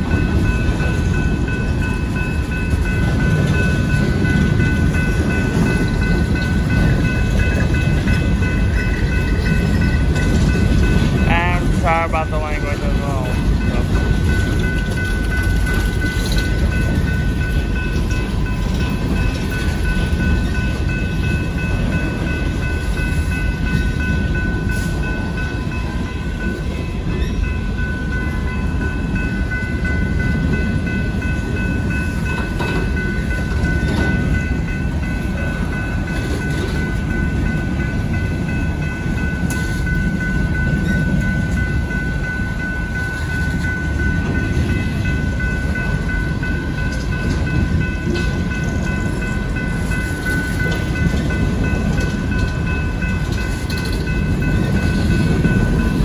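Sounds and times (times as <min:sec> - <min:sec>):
crossing bell ringing: 0:00.0 - 0:56.0
train cars rumbling past: 0:00.0 - 0:56.0.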